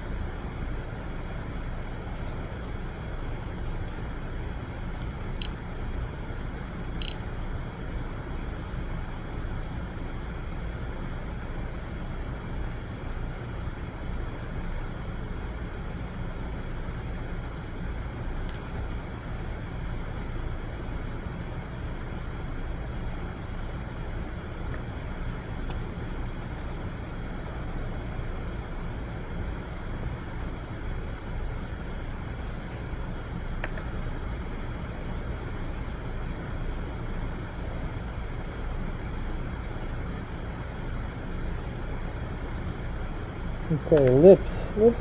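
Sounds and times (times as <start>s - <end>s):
low background rumble: 0.0s - 45.0s.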